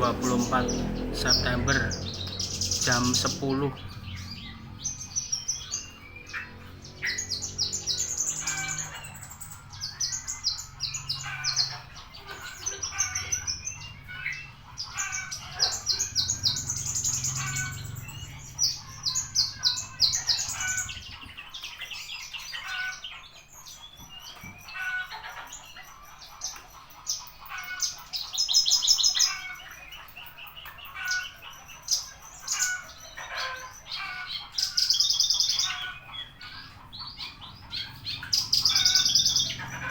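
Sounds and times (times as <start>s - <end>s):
bird singing trills and chirps: 0.0s - 39.9s.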